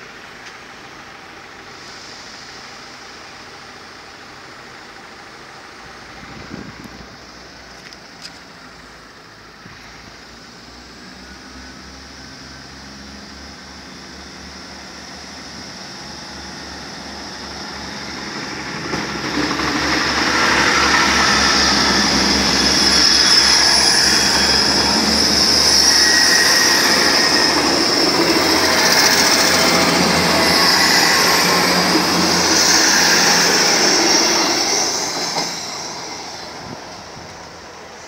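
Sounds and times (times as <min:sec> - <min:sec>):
carriages rumbling on rails: 0:00.0 - 0:38.0
diesel train passing: 0:00.0 - 0:38.0.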